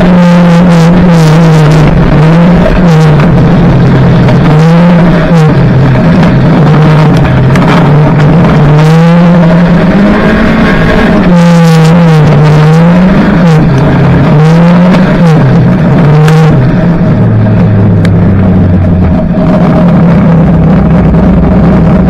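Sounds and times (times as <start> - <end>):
racing car engine revving: 0.0 - 22.0.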